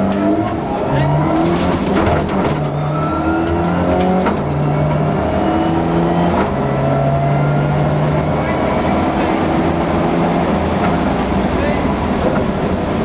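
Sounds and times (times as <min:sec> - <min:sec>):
rally car engine at full load: 0:00.0 - 0:13.0.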